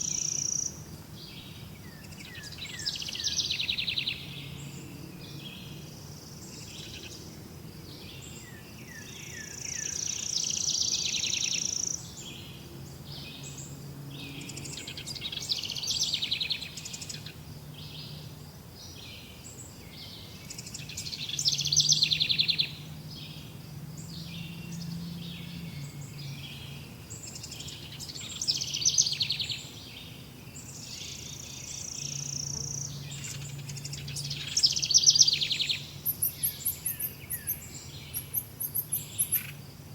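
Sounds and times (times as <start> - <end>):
songbirds chirping and singing: 0.0 - 39.8.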